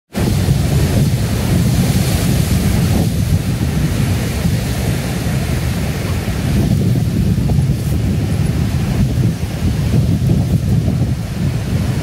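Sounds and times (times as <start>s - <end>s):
surf breaking over rocks: 0.1s - 12.0s
wind buffeting microphone: 0.1s - 12.0s.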